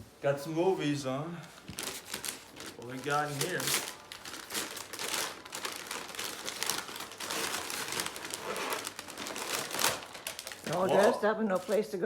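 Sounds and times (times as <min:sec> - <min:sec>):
wrapping paper rustling: 0:01.4 - 0:12.0.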